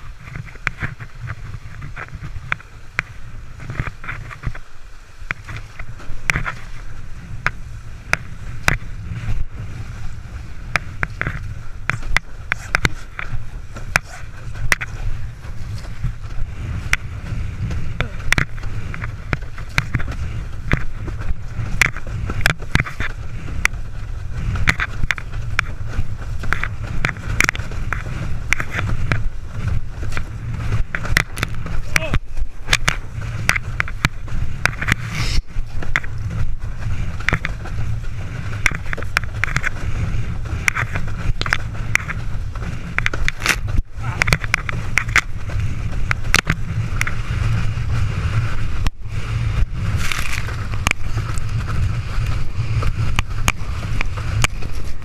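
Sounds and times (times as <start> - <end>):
board hull slapping waves: 0.0 - 55.0
wind and rushing water: 0.0 - 55.0.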